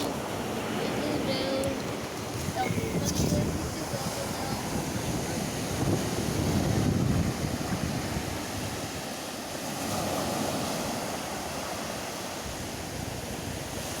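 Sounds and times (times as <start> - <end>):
sea waves washing: 0.0 - 14.0
wind buffeting microphone: 0.0 - 14.0.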